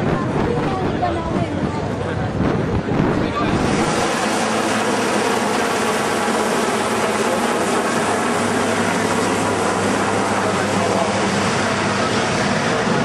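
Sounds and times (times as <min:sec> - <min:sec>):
helicopter flying overhead: 0:00.0 - 0:13.0.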